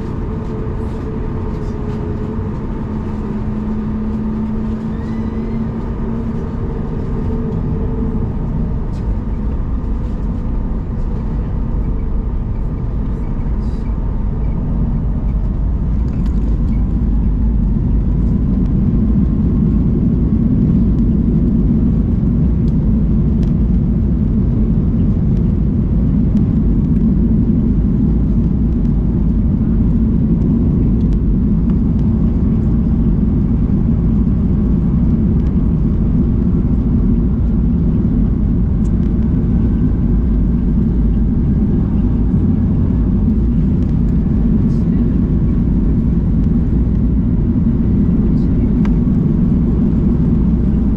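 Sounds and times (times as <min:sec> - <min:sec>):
jet engines roaring in cabin: 0:00.0 - 0:50.9.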